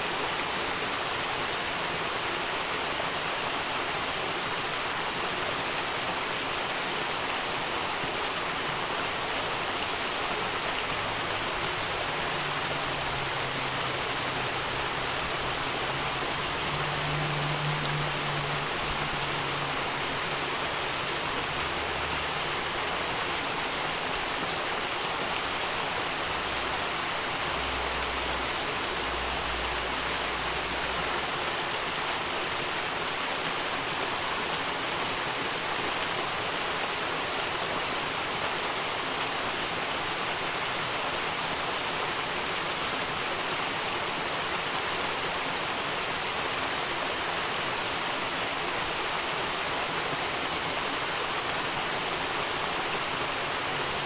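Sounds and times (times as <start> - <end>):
stream rushing and splashing: 0.0 - 54.0.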